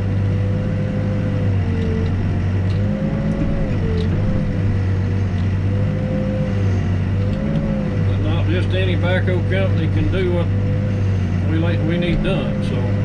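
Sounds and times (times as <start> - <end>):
backhoe diesel engine digging: 0.0 - 13.0.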